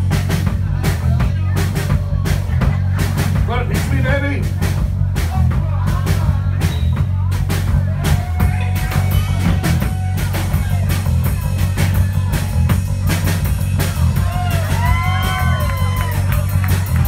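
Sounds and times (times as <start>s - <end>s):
bass guitar: 0.0s - 17.0s
drum kit beat: 0.0s - 17.0s.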